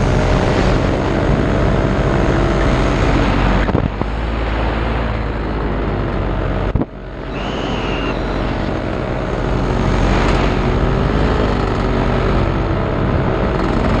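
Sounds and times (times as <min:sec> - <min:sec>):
paramotor engine running: 0:00.0 - 0:14.0.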